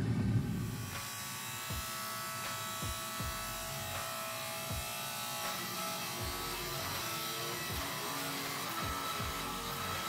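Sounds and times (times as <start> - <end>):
electric motor buzz: 0.0 - 10.0
faint music: 0.0 - 10.0.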